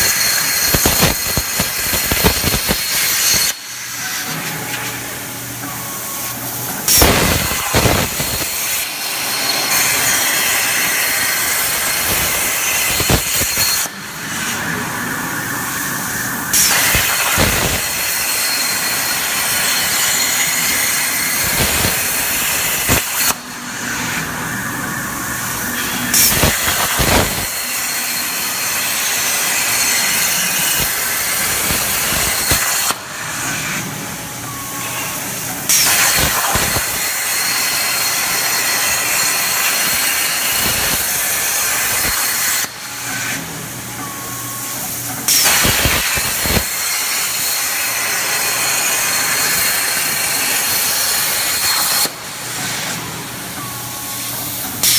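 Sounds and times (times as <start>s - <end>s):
plasma torch cutting metal: 0.0s - 43.5s, 44.6s - 53.1s, 54.3s - 54.9s.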